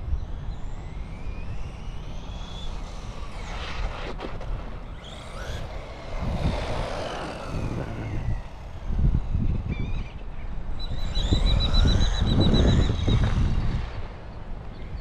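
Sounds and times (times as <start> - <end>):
toy truck electric motor whine: 0.1 - 14.2.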